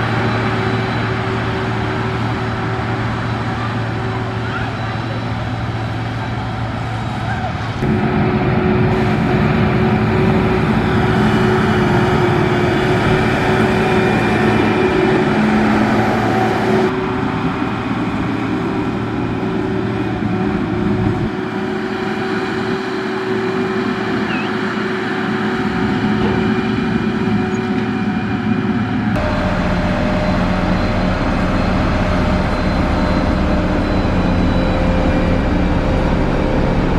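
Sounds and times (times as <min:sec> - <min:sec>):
heavy machine engine under load: 0:00.0 - 0:36.9.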